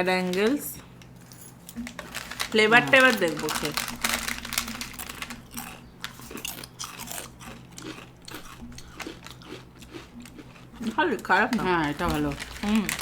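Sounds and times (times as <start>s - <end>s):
crunching chips: 1.0s - 13.0s.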